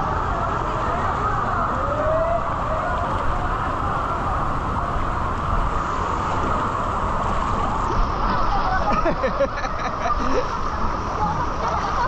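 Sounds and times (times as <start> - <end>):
dense rushing noise: 0.0 - 12.0.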